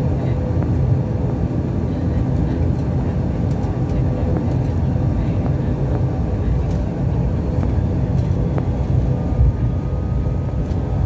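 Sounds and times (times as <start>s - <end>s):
turboprop engine drone in cabin: 0.0s - 11.0s.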